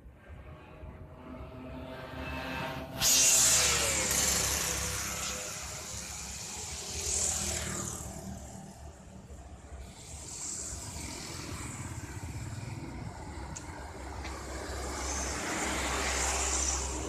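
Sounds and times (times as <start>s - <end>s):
vehicles passing close by: 0.0s - 17.0s.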